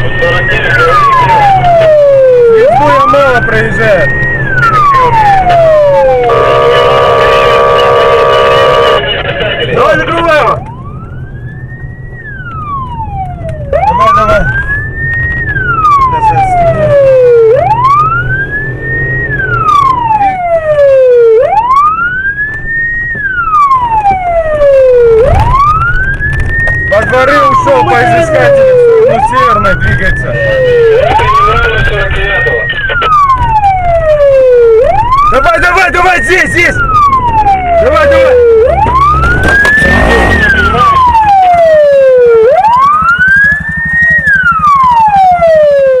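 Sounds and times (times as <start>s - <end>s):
vehicle low hum: 0.0s - 45.7s
police siren wailing: 0.0s - 46.0s.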